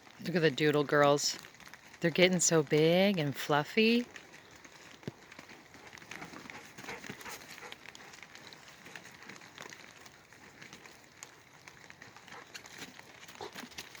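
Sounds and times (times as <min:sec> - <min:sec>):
dogs rustling on trampoline: 0:00.0 - 0:14.0.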